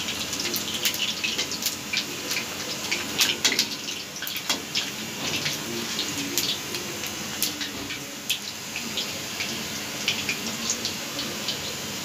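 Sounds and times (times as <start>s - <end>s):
oil sizzling with pops: 0.0s - 12.0s.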